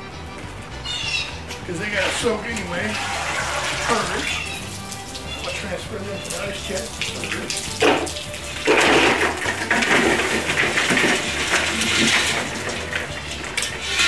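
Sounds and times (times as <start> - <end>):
crawfish and water pouring: 1.8 - 14.0.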